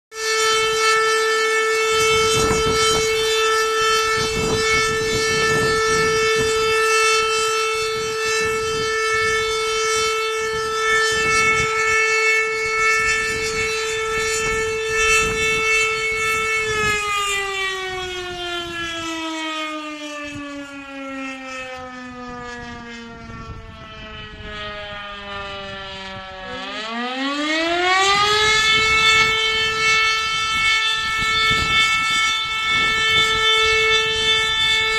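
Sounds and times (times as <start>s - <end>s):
fire station siren wailing: 0.1s - 34.9s.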